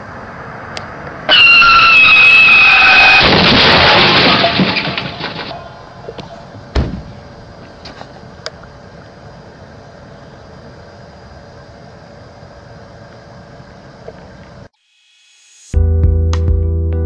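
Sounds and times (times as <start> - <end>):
steady outdoor background noise: 0.0 - 15.6.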